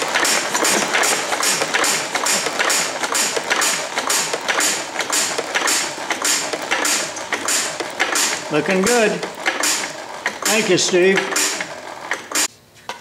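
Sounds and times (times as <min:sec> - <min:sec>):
engine being cranked: 0:00.0 - 0:12.5
regular mechanical clicking: 0:00.0 - 0:12.5.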